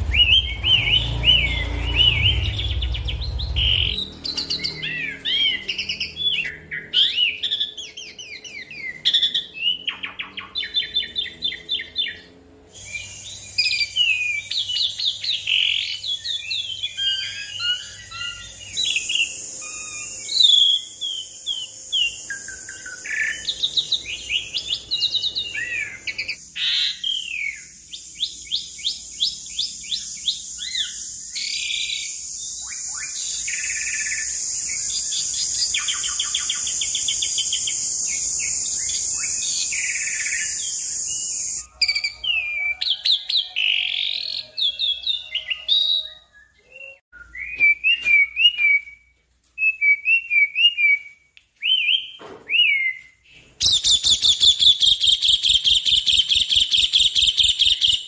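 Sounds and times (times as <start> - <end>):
starling singing: 0.0 - 47.0.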